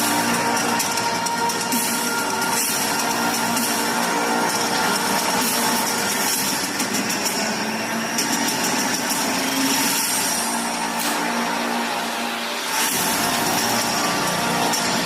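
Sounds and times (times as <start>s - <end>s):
engine high-pitched drone: 0.0s - 15.0s.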